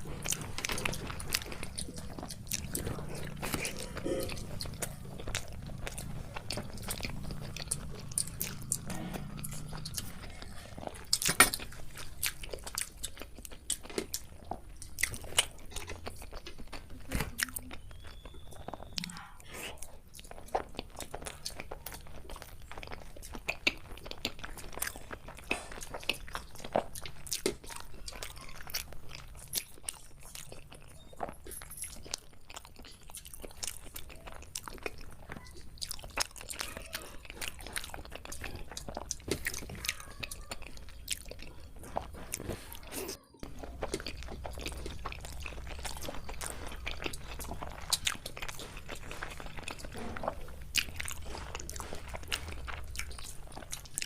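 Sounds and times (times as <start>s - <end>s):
chewing and biting food: 0.0s - 54.0s.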